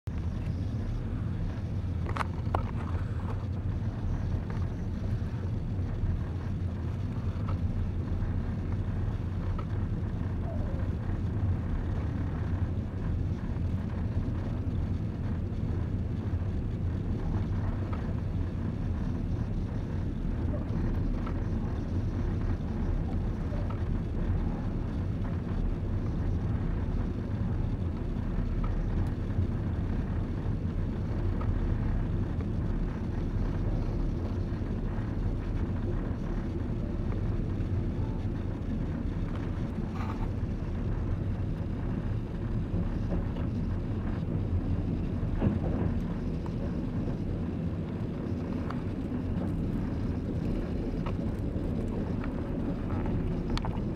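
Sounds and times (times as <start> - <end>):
train carriage rumbling: 0.1 - 53.9.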